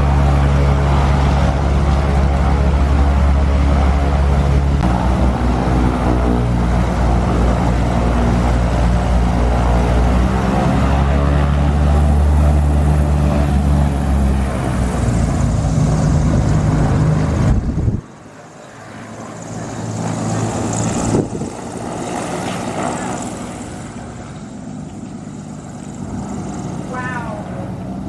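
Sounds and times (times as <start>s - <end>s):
propeller aircraft engine running: 0.0s - 28.0s.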